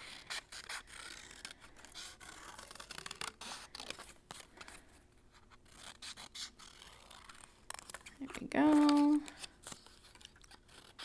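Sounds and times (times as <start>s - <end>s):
paper rustling: 0.0s - 11.0s
scissors snipping paper: 0.2s - 4.0s, 5.7s - 11.0s.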